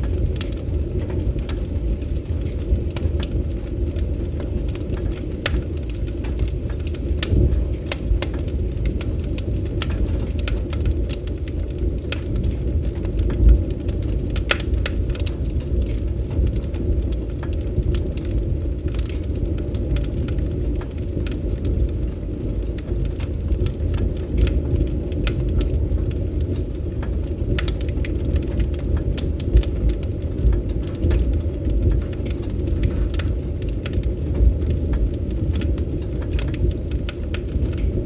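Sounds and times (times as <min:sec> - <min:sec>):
low rumble of burning: 0:00.0 - 0:38.0
wood fire crackling and popping: 0:00.0 - 0:38.0.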